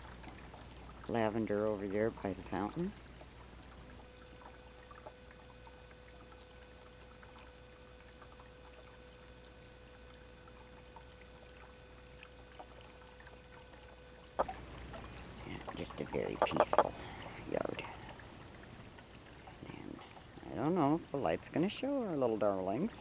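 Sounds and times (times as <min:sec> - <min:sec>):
fountain water running: 0:00.0 - 0:23.0
thin steady hum: 0:00.0 - 0:23.0.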